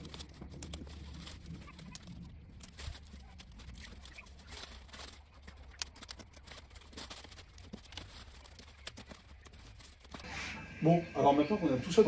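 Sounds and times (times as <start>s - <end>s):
faint low rumble: 0.0s - 10.0s
stalks snapping and rustling: 0.0s - 10.3s.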